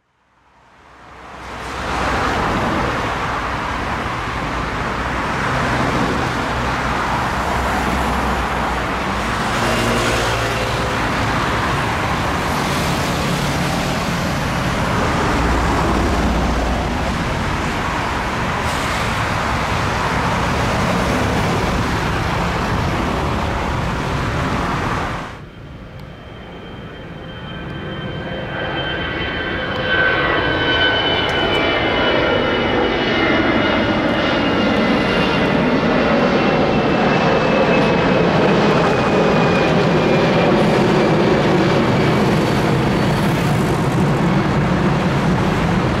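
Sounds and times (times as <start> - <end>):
road traffic noise: 0.0 - 46.0.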